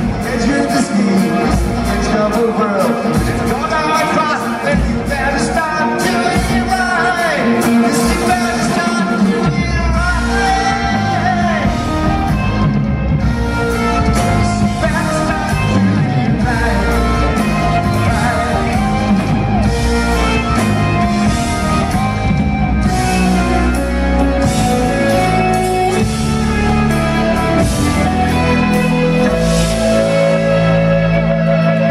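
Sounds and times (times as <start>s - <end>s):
progressive rock band playing: 0.0s - 31.9s.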